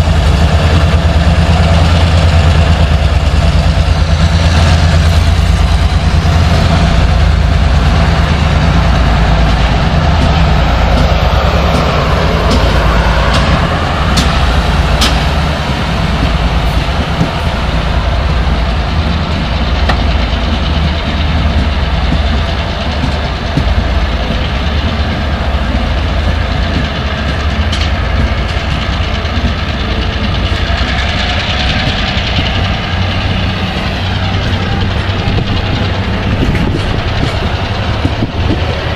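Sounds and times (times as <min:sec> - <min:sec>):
train rumbling past: 0:00.0 - 0:38.9
train wheel clicks: 0:00.0 - 0:38.9.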